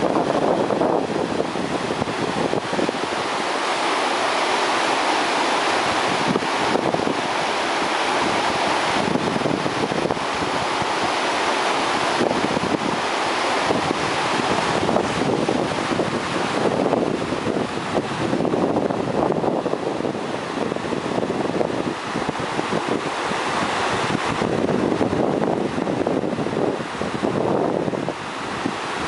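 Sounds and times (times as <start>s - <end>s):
floodwater rushing: 0.0s - 29.0s
wind on microphone: 0.0s - 29.0s.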